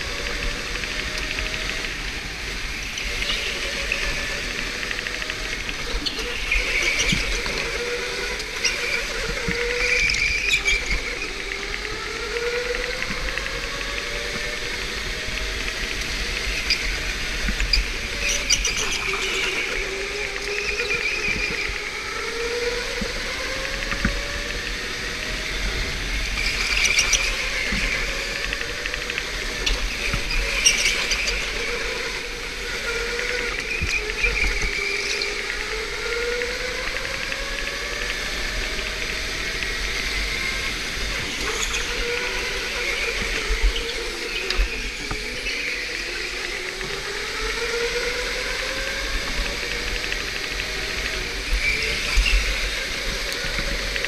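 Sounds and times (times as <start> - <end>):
electric motor whining: 0.0 - 54.0.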